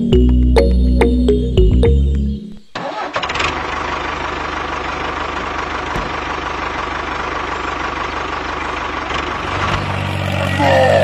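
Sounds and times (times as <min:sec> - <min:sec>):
tractor engine idling: 0:00.1 - 0:10.6.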